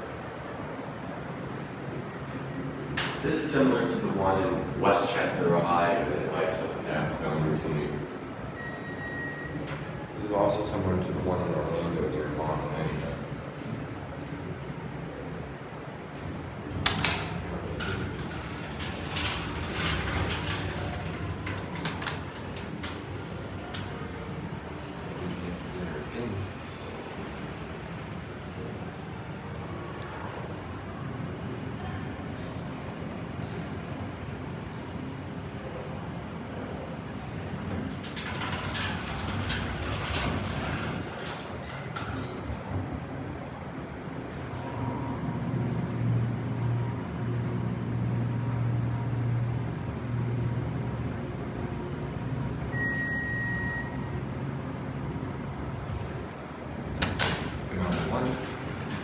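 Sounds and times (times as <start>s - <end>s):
elevator sliding doors running: 0.0s - 59.0s.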